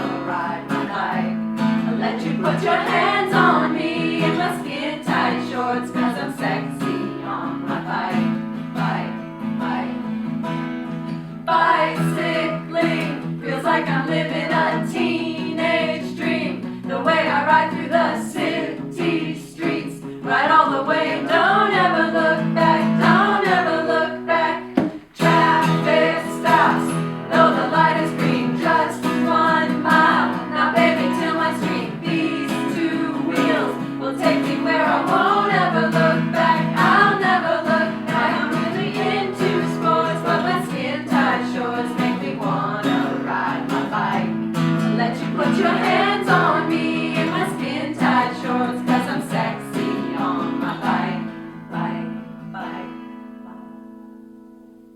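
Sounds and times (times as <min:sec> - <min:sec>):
choir singing a pop song: 0:00.0 - 0:10.5, 0:11.2 - 0:53.1.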